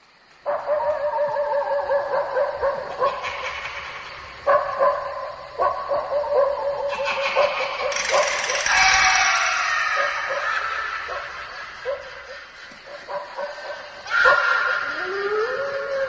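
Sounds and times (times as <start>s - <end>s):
crickets chirping: 0.0s - 16.0s
wolves yipping and howling: 0.5s - 16.0s.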